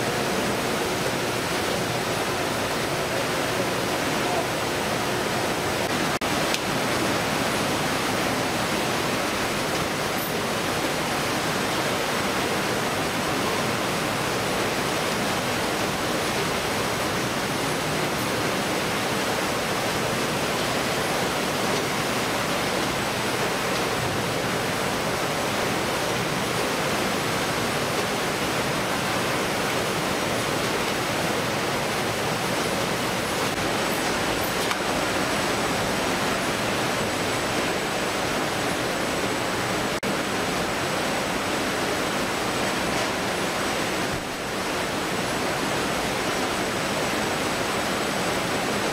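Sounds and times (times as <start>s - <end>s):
water washing over belts: 0.0s - 48.9s.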